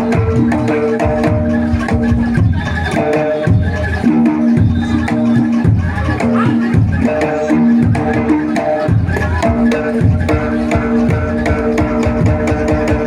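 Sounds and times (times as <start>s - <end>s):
drums beating steady rhythm: 0.0s - 13.0s.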